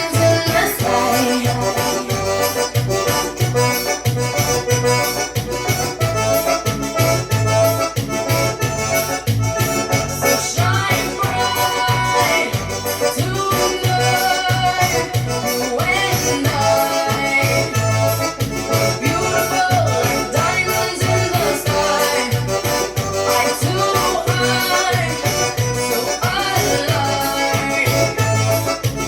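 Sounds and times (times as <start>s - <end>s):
accordion melody: 0.0s - 29.0s
pulsing bass beat: 0.0s - 29.0s.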